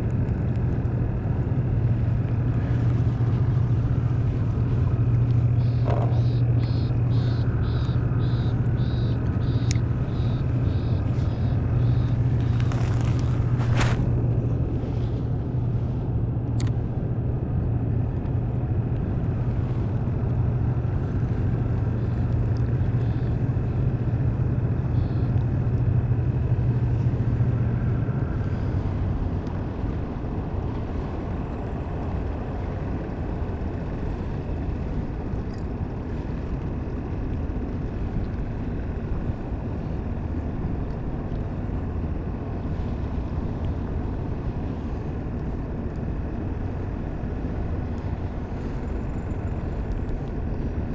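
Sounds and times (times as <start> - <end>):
boat motor humming: 0.0 - 50.9.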